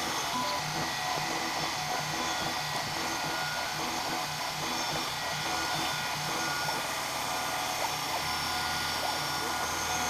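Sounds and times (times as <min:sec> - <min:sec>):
milling machine cutting metal: 0:00.0 - 0:10.0.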